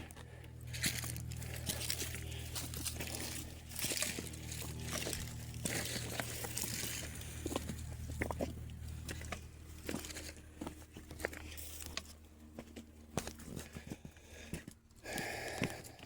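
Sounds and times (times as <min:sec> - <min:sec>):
low steady rumble: 0:00.0 - 0:16.0
footsteps on rocky ground: 0:00.1 - 0:16.0.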